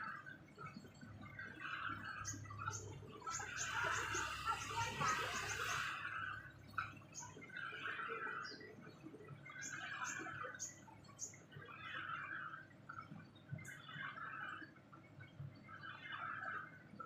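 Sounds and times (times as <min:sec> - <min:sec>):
small birds chirping: 0:00.1 - 0:16.8.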